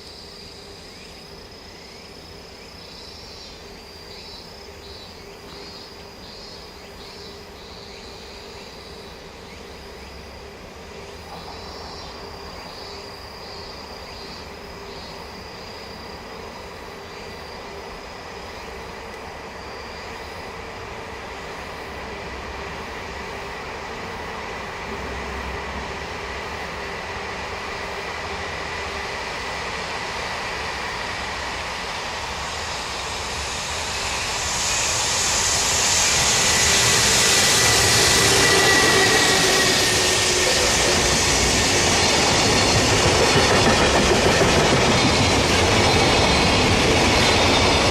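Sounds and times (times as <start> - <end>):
freight train rumble and whine: 0.0 - 47.9
insects chirring: 0.0 - 47.9
wheels hissing on rails: 0.0 - 47.9.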